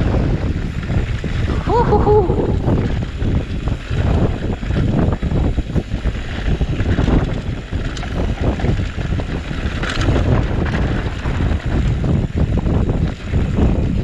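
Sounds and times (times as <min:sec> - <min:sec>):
bike rattling over rough trail: 0:00.0 - 0:14.0
wind buffeting microphone: 0:00.0 - 0:14.0.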